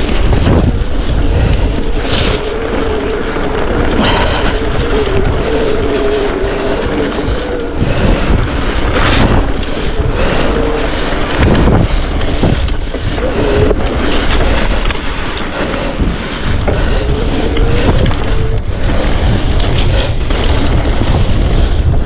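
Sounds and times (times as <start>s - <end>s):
bike knocks and rattles: 0.0s - 22.0s
bike tyres rumbling over wet trail: 0.0s - 22.0s
wind buffeting microphone: 0.0s - 22.0s.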